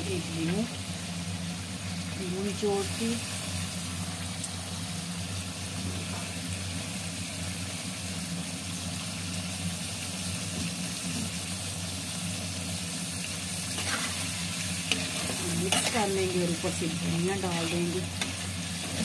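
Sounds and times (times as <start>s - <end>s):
potato slices sizzling in oil: 0.0s - 19.0s.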